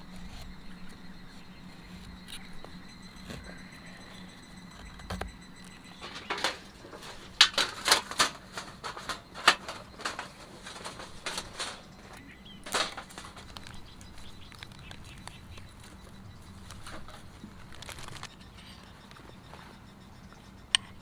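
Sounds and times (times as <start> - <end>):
firewood snapping and crackling: 0.0 - 18.4.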